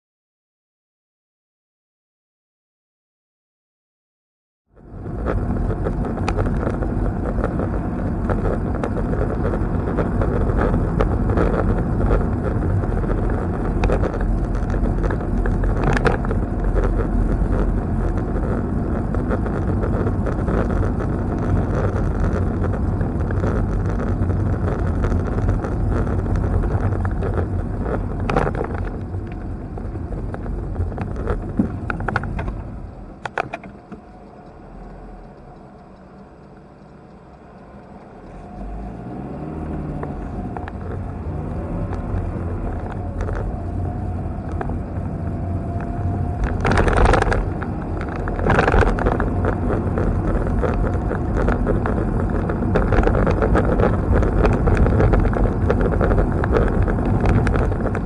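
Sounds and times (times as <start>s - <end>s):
car tyres and engine rumbling: 4.7s - 58.0s
car interior rattles: 4.8s - 35.6s, 38.2s - 58.0s.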